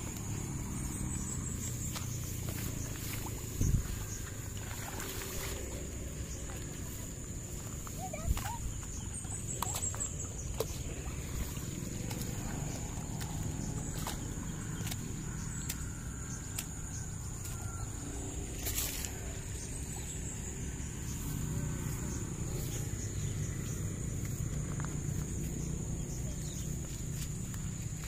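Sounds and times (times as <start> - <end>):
rustle in grass: 0.0 - 28.0
stream low rumble: 0.0 - 28.0.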